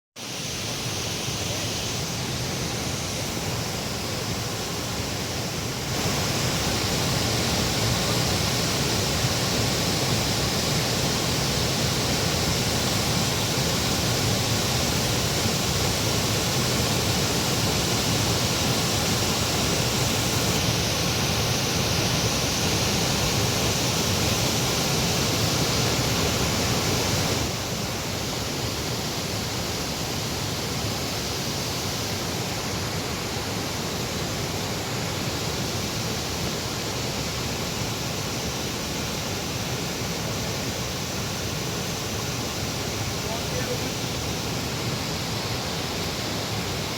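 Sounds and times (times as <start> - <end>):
waterfall rushing: 0.2 - 46.9.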